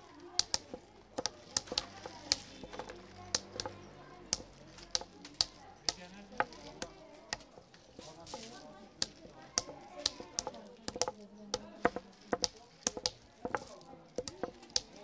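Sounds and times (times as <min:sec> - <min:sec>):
nut shells cracking: 0:00.0 - 0:15.0.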